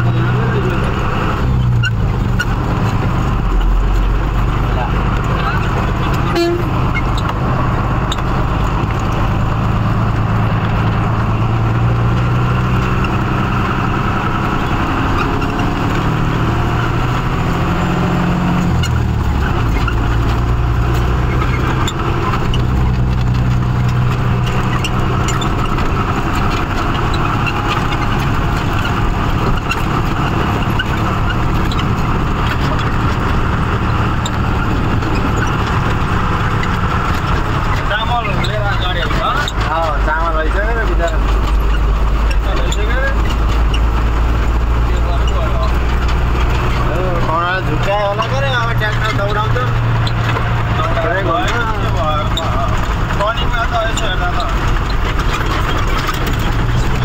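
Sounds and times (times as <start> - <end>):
road noise: 0.0 - 57.0
truck diesel engine running: 0.0 - 57.0.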